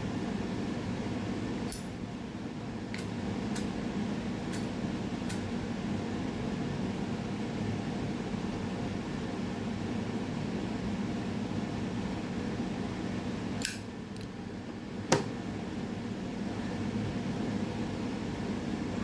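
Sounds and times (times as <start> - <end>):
machine-like room hum: 0.0 - 19.0.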